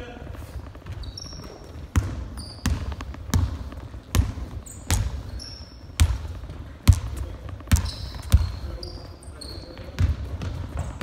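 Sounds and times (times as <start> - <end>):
sneaker squeaks: 0.0 - 11.0
basketball bouncing on hardwood: 0.8 - 8.7, 9.8 - 11.0.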